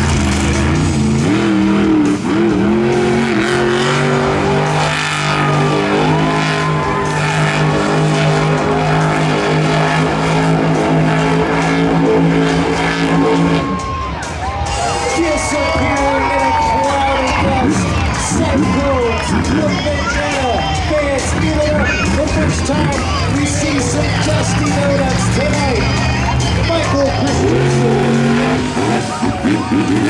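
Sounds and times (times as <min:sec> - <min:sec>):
truck engine at high revs: 0:00.0 - 0:30.0.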